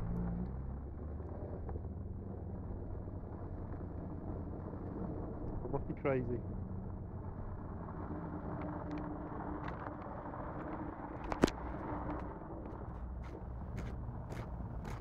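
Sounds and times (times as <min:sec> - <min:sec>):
distant car engine hum: 0:00.0 - 0:15.0.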